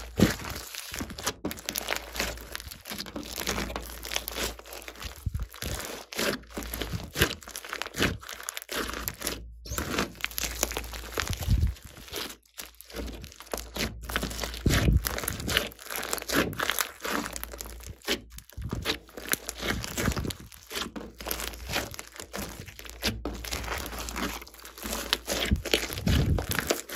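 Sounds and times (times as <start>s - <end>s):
slime crackling and popping: 0.0s - 26.9s.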